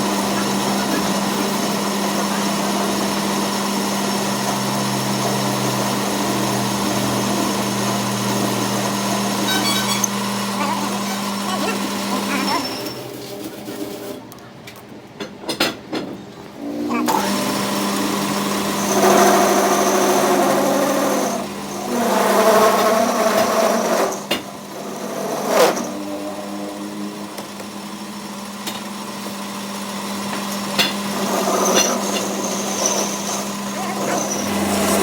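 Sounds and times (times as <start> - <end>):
cutting or grinding noise: 0.0 - 14.1, 16.8 - 27.5, 29.9 - 35.0
machine tool motor humming: 0.0 - 14.1, 17.0 - 35.0.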